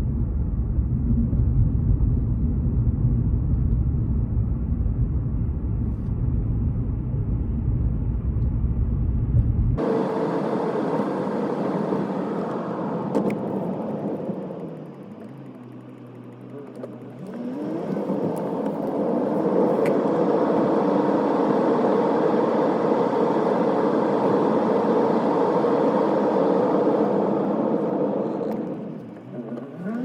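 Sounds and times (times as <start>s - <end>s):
car engine accelerating: 0.0s - 30.0s
road noise: 0.0s - 30.0s.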